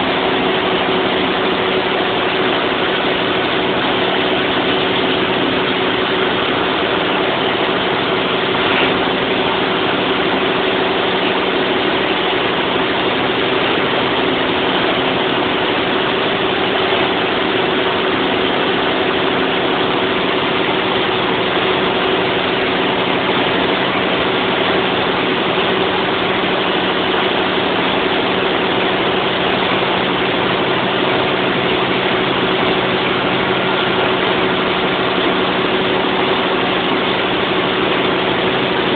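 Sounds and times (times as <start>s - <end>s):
generator engine droning: 0.0s - 38.9s.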